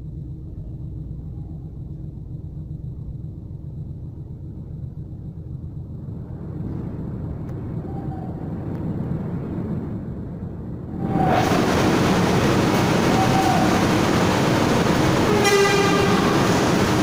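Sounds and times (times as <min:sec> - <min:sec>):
heavy truck engines rumbling: 0:00.0 - 0:17.0.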